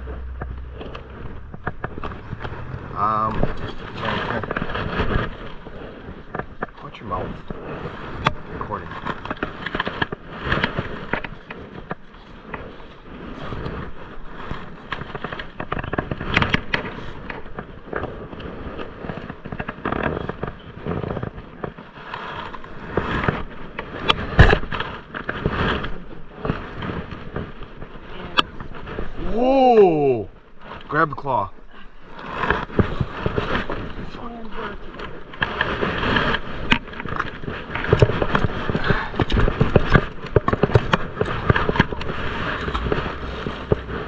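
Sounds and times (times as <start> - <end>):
rope scraping through gloves: 0.0 - 44.0.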